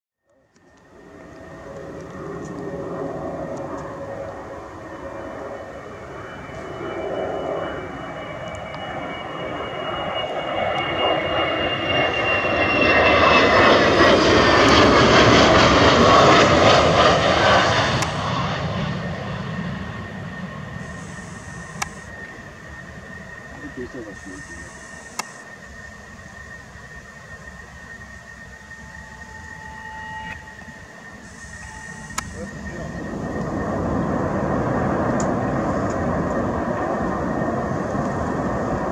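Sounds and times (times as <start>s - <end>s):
jet engine whine: 0.2s - 38.9s.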